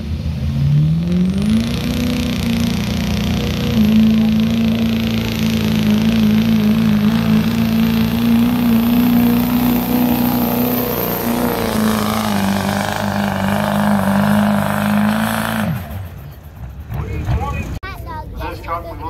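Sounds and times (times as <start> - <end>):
diesel truck engine at full throttle: 0.0 - 18.8.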